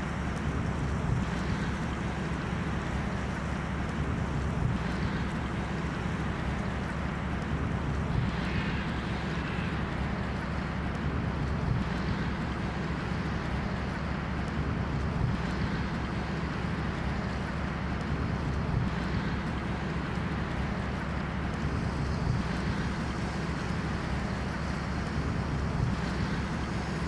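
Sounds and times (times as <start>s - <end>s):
rush of water: 0.0s - 27.0s.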